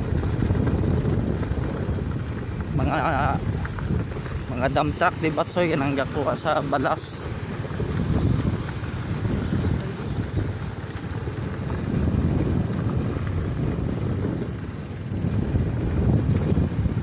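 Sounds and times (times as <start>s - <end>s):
motorcycle engine rumble: 0.0s - 17.0s.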